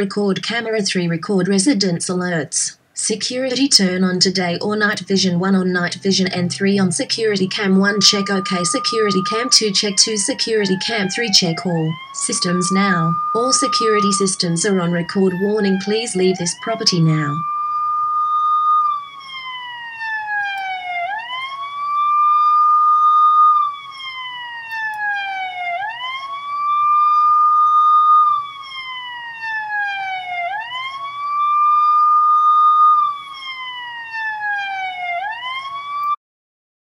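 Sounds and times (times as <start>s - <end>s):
police siren wailing: 3.3s - 36.2s.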